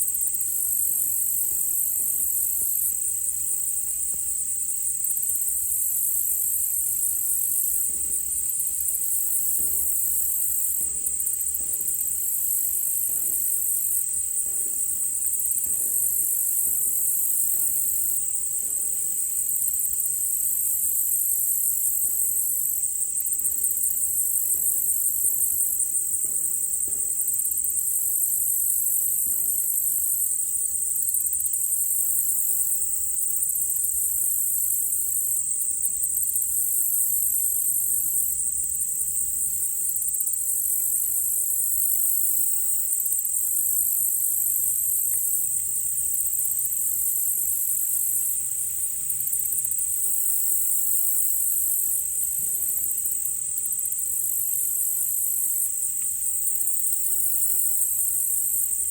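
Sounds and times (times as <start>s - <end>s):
crickets trilling: 0.0s - 58.9s
insects pulsing chirps: 0.0s - 58.9s.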